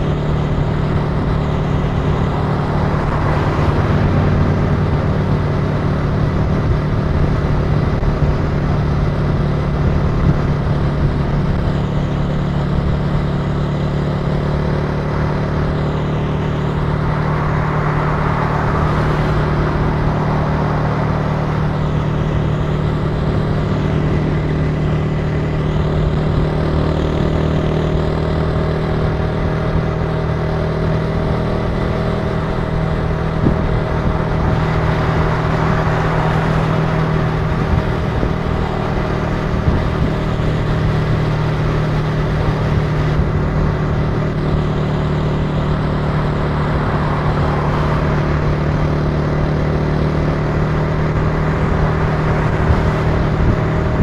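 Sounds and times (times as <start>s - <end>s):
motorcycle engine cruising: 0.0s - 54.0s
road and wind noise: 0.0s - 54.0s.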